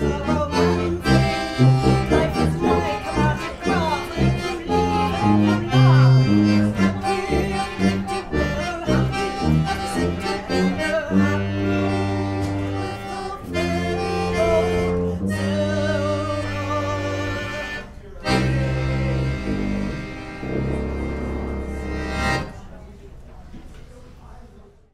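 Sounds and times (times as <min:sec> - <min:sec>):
tuba low notes: 0:00.0 - 0:22.7
piano accordion chords: 0:00.0 - 0:22.8.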